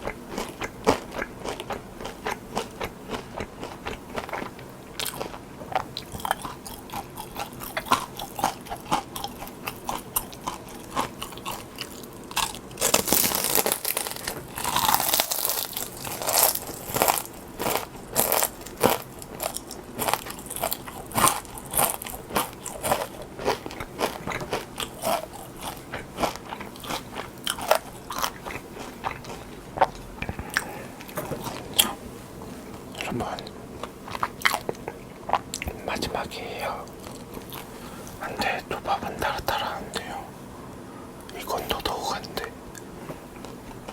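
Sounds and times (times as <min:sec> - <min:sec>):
person chewing crunchy food: 0:00.0 - 0:40.2.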